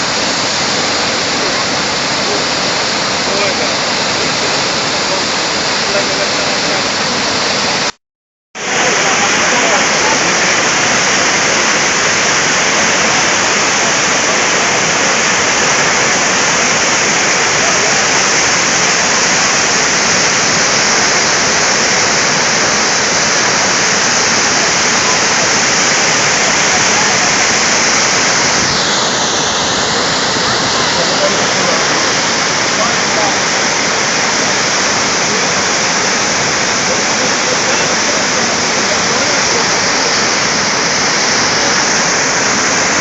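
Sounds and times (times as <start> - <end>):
waterfall rushing: 0.0 - 8.0, 8.6 - 43.0.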